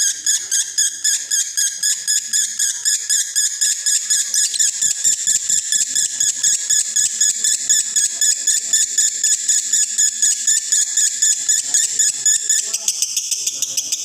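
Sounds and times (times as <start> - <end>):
lovebird chattering: 0.0 - 14.0.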